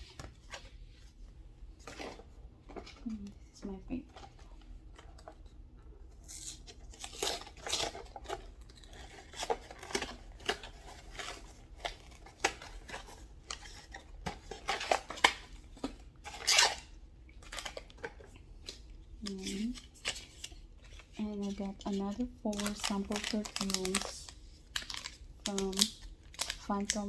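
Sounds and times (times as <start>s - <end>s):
packaging rustling and tearing: 4.0s - 27.0s.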